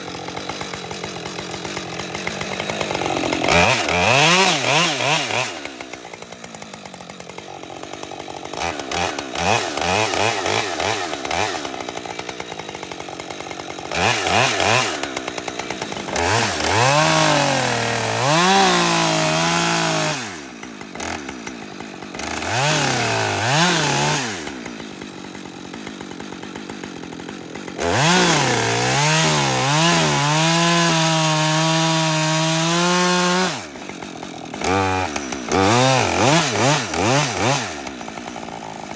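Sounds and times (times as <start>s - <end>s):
chainsaw idling and cutting wood: 0.0s - 38.9s.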